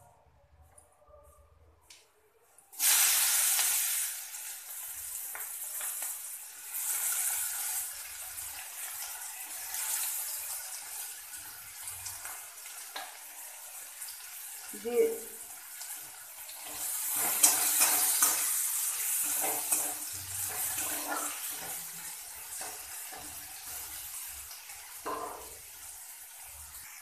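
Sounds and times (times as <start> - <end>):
onion sizzling in hot oil: 2.7 - 27.0.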